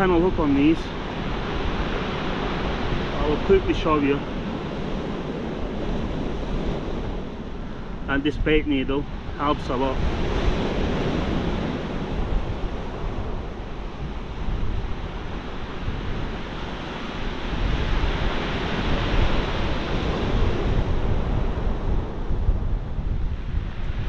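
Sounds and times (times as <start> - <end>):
waves breaking on shingle beach: 0.0 - 22.0.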